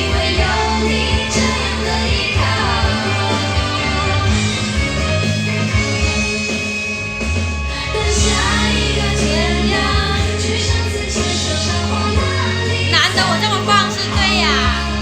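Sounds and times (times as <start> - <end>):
pop song over loudspeaker: 0.0 - 15.0.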